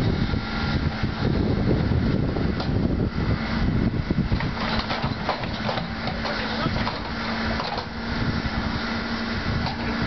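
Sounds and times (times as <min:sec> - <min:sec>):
backhoe bucket working: 0:00.0 - 0:10.0
diesel engine running: 0:00.0 - 0:10.0.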